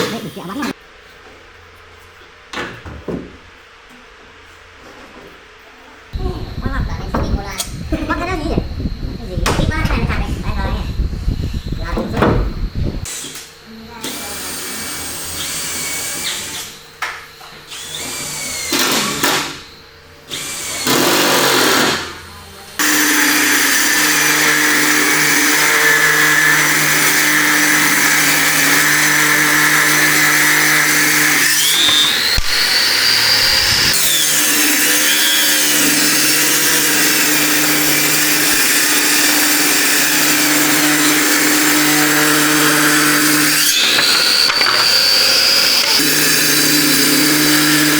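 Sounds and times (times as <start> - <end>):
electric power tool running: 0.0 - 0.8, 7.6 - 47.9.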